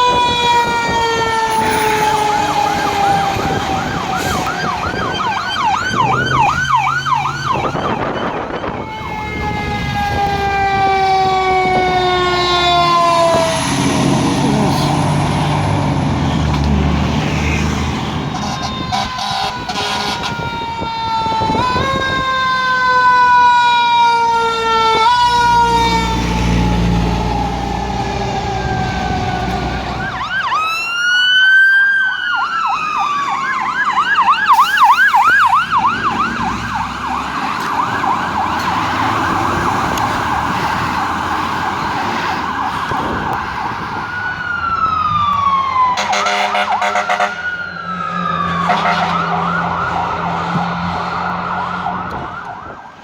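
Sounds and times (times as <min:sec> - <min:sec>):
fire truck siren: 0:00.0 - 0:53.0.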